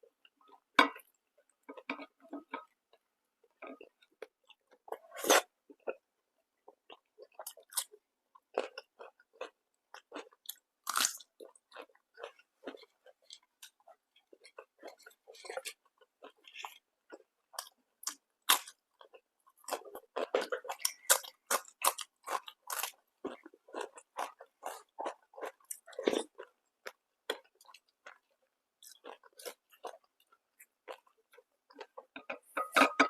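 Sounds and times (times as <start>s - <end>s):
person chewing food: 0.1s - 32.9s.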